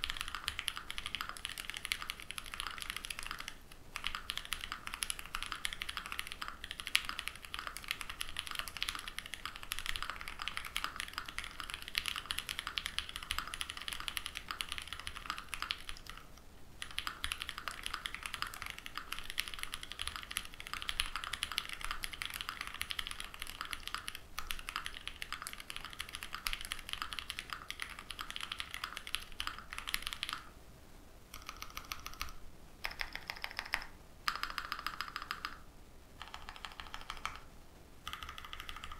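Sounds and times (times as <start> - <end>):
mechanical keyboard typing: 0.0 - 30.5, 31.3 - 35.6, 36.2 - 38.9.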